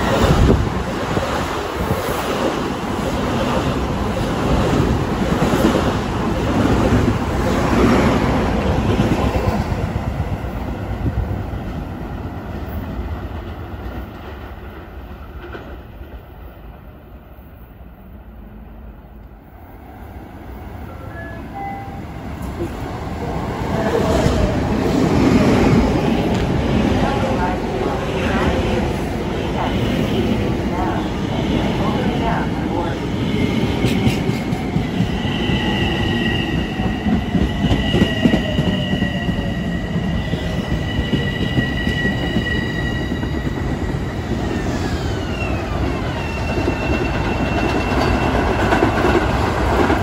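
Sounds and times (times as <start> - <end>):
electric train passing: 0.0 - 50.0
train approaching: 0.0 - 50.0.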